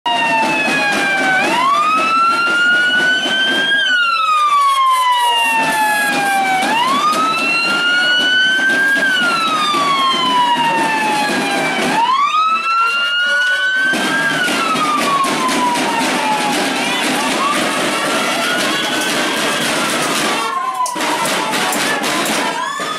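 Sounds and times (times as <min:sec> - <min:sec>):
police siren wailing: 0:00.0 - 0:22.9.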